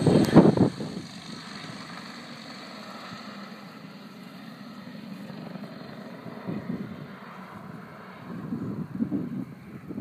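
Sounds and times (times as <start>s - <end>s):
distant helicopter rotor drone: 0.0s - 10.0s.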